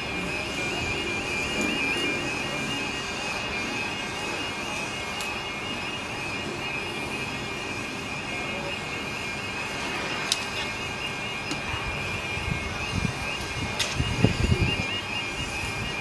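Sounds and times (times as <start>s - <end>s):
steam hissing: 0.0s - 16.0s
thin high tone: 0.0s - 16.0s.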